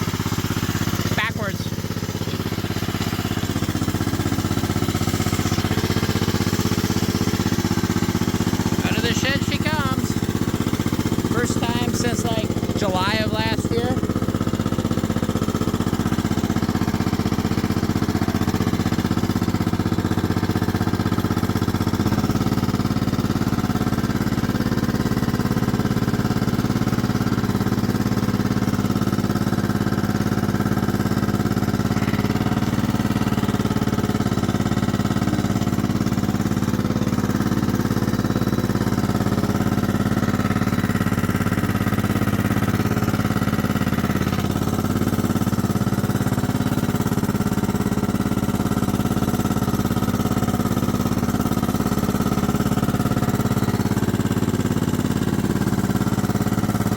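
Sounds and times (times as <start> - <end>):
lawn mower engine running: 0.0 - 56.9.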